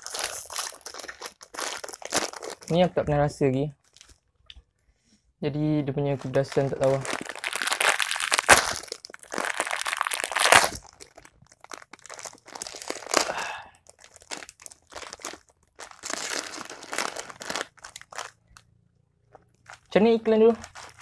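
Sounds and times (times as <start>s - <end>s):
plastic snack packet crinkling: 0.0s - 2.9s, 3.8s - 4.2s, 6.2s - 18.7s, 19.4s - 21.0s.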